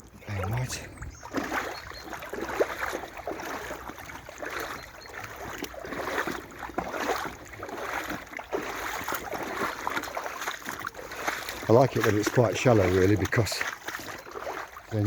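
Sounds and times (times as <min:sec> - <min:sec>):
boots wading through water: 0:00.0 - 0:15.0.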